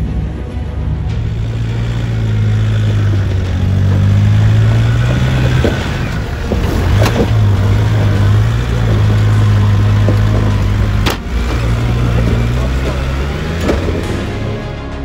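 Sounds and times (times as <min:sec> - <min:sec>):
vehicle engine pulling at low revs: 0:00.6 - 0:15.0
sharp knocks: 0:01.4 - 0:14.4.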